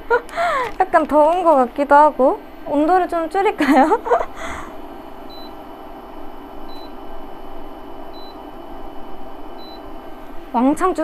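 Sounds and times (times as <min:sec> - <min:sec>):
hob humming: 0:00.0 - 0:11.0.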